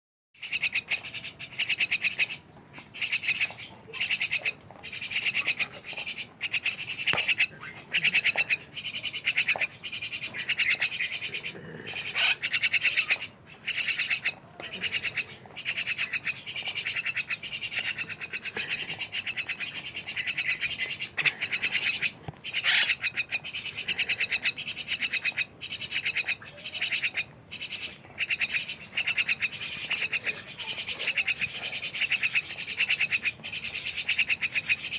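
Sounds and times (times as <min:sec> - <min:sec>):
mynas chattering: 0:00.5 - 0:34.9.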